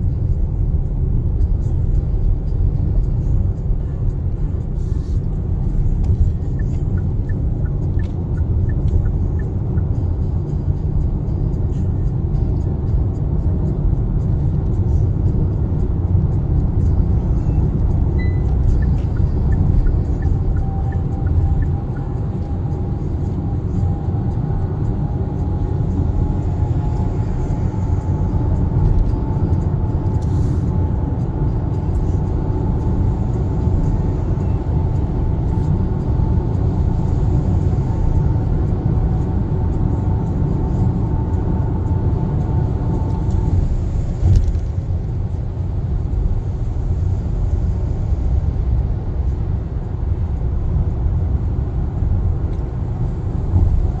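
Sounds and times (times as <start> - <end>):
road and tyre rumble in car: 0.0 - 54.0.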